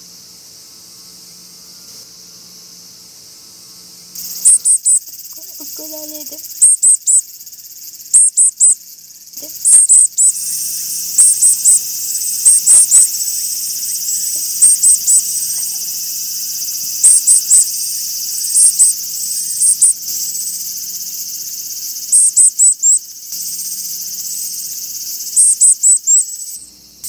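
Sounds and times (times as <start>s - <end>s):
high-pitched insect drone: 0.0s - 27.0s
very high chirps: 4.2s - 27.0s.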